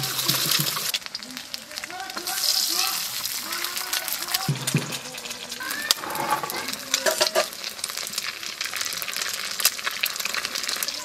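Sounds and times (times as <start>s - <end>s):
eggs sizzling in oil: 0.0s - 11.0s
oil crackling and popping: 0.0s - 11.0s.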